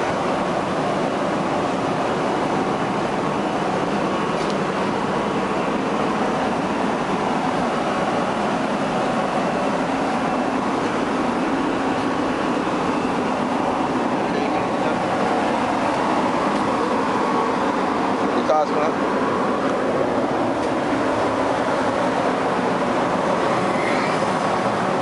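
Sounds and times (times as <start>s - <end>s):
ship machinery humming: 0.0s - 25.0s.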